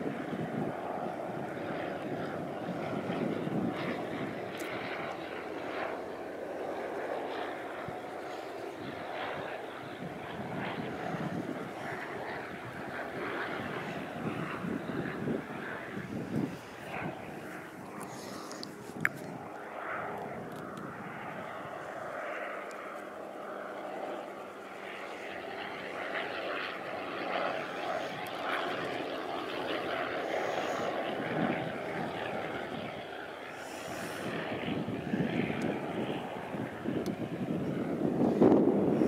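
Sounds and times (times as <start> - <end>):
propeller aircraft engine drone: 0.0 - 39.0.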